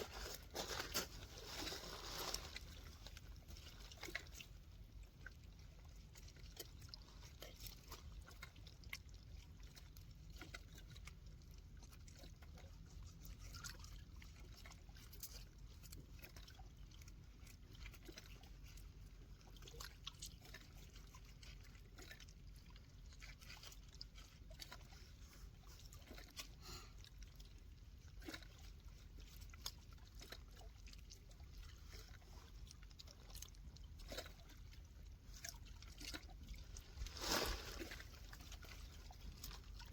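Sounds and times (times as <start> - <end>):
faint trickling water: 0.0 - 39.9
low steady rumble: 0.0 - 39.9.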